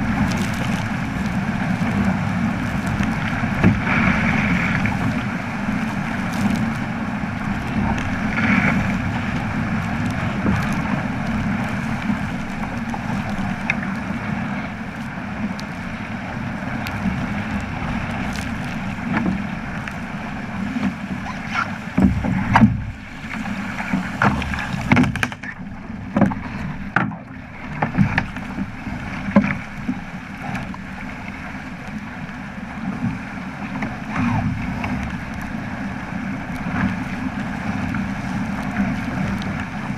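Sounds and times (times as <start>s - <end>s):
water rushing along boat hull: 0.0s - 39.9s
wind buffeting microphone: 0.0s - 39.9s.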